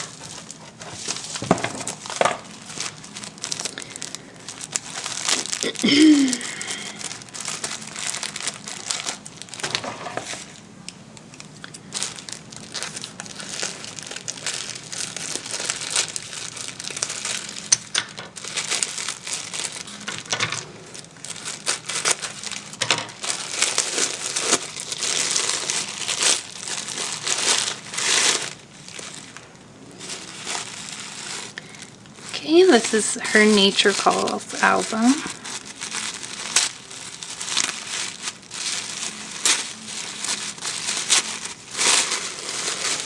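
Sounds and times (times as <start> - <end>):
packaging crinkling and rustling: 0.0 - 43.0.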